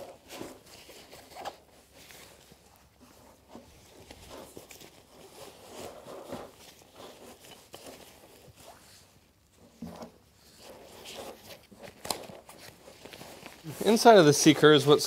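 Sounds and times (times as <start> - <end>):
fabric rustling and scraping: 0.0 - 15.0.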